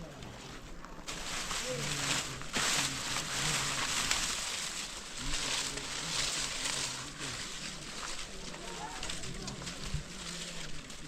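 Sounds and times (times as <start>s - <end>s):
heavy rain falling: 1.1s - 11.0s.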